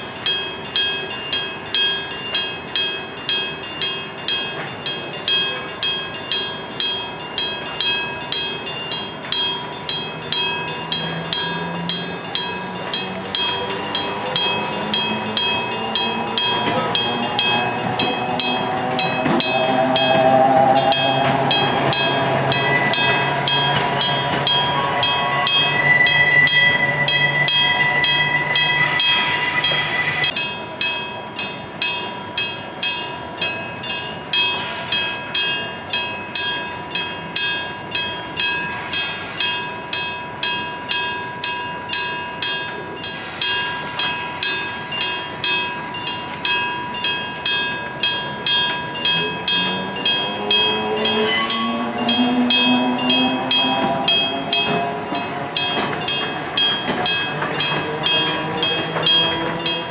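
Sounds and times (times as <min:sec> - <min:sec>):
train running noise: 0:00.0 - 0:59.9
train whine and squeal: 0:00.0 - 0:59.9
level crossing bell striking: 0:00.2 - 0:29.2, 0:30.2 - 0:59.9.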